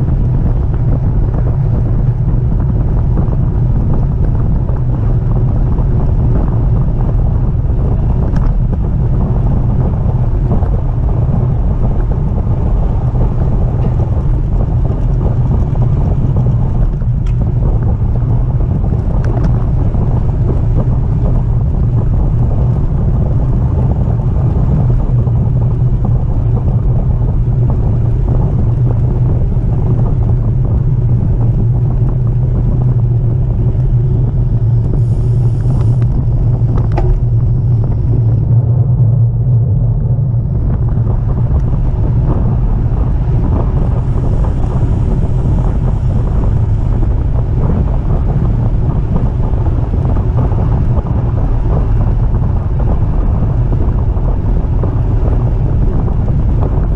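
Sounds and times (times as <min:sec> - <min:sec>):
wind rumbling on microphone: 0:00.0 - 0:56.9.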